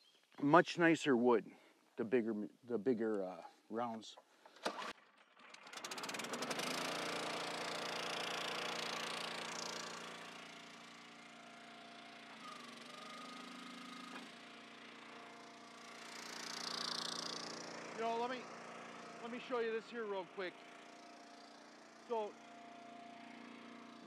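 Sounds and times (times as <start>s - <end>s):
electric starter cranking: 4.4s - 24.0s.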